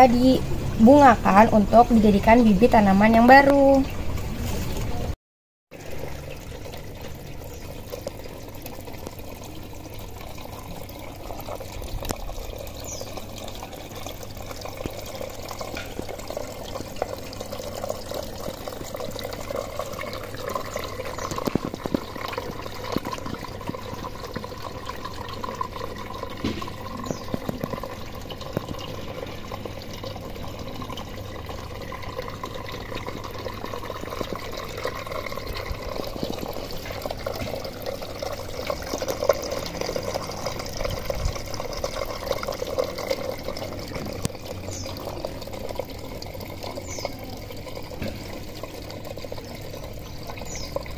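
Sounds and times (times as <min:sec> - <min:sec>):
water trickling through pipes: 0:00.0 - 0:50.9.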